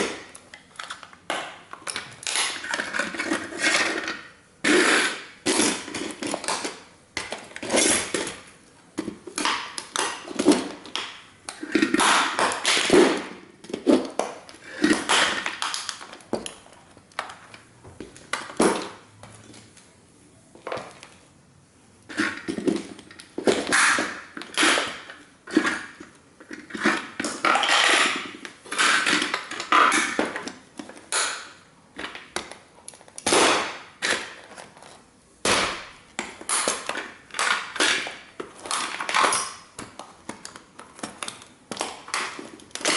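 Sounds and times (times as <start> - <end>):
toy car being crushed: 0.0 - 17.6, 22.1 - 34.8, 35.4 - 42.9.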